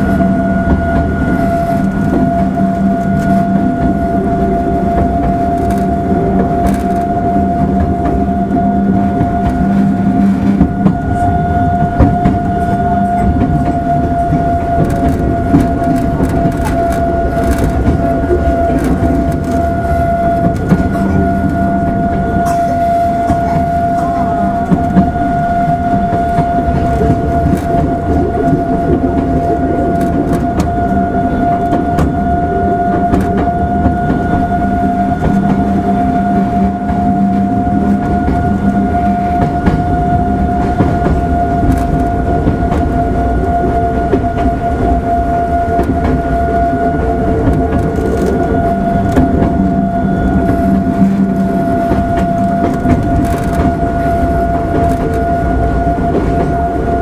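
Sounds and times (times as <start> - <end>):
continuous high whine: 0.0 - 57.0
wheels rumbling on rail: 0.0 - 57.0
track clicks and knocks: 0.1 - 57.0.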